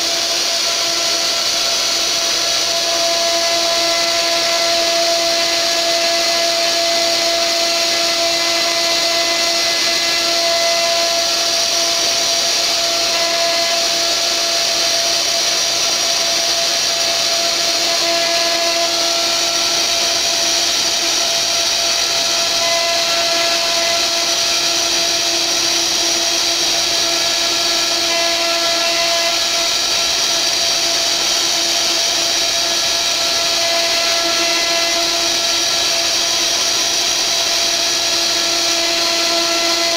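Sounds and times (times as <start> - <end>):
hiss of wood being cut: 0.0 - 39.9
router spindle whine: 0.0 - 39.9.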